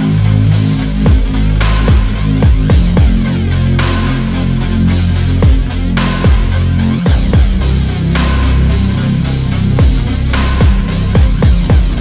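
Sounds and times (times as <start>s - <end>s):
bass-heavy music with drum hits: 0.0s - 12.0s.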